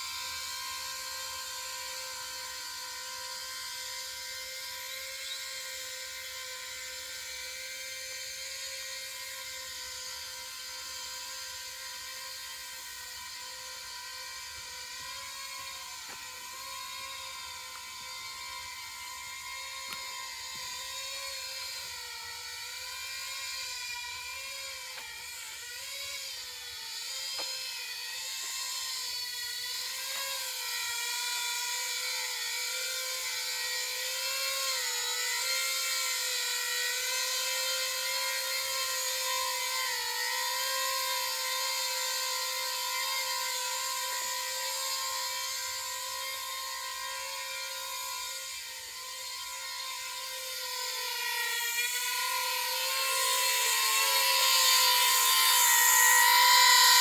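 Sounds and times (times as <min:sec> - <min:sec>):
electric helicopter rotors humming: 0:00.0 - 0:57.0.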